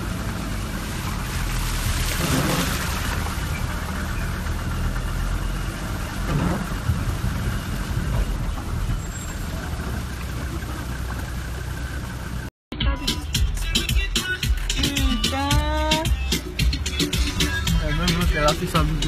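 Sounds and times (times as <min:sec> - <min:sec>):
road noise: 0:00.0 - 0:19.0
vehicle engine rumble: 0:00.0 - 0:19.0.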